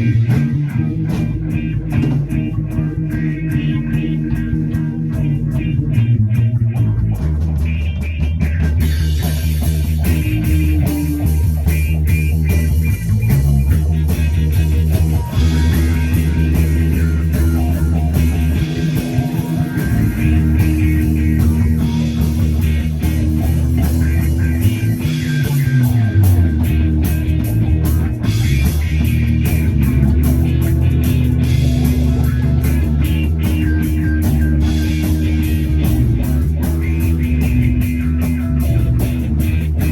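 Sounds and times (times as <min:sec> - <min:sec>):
bass guitar line: 0:00.0 - 0:39.9
rock guitar and drums: 0:00.0 - 0:39.9.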